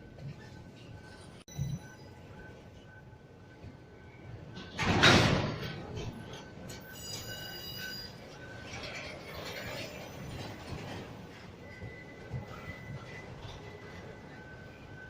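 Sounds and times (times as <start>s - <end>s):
loud rush of train noise: 0.0s - 15.0s
train rolling rumble: 0.0s - 15.0s
train wheels squealing: 0.3s - 3.2s, 5.6s - 15.0s.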